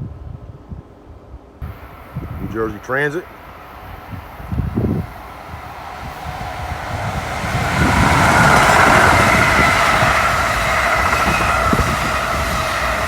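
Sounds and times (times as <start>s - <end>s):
train rumble and rail noise: 0.0s - 13.0s.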